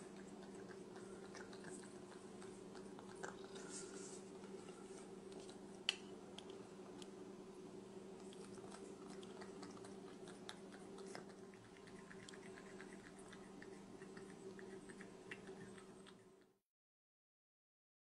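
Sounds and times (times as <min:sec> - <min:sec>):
cat licking and chewing: 0:00.0 - 0:07.2, 0:07.8 - 0:16.6
low electrical hum: 0:00.0 - 0:16.6.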